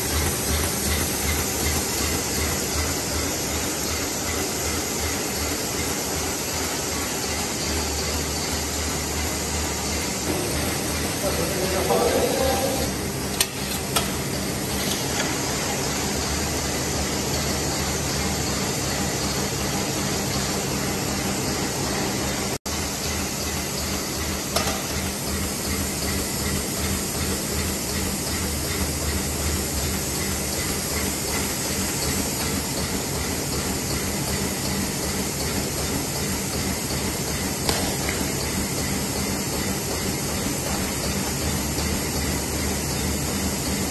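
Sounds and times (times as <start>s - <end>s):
packing machine whirring: 0.0s - 43.9s.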